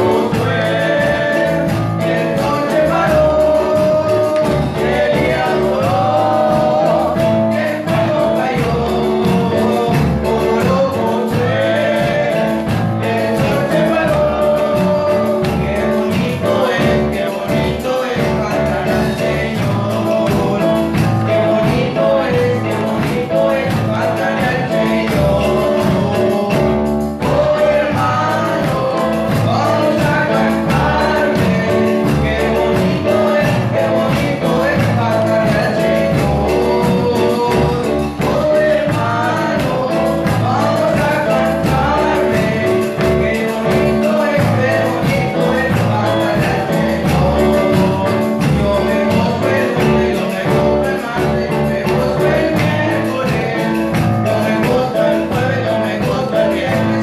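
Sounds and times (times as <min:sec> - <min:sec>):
electronic keyboard: 0:00.0 - 0:57.0
gospel singing: 0:00.0 - 0:57.0.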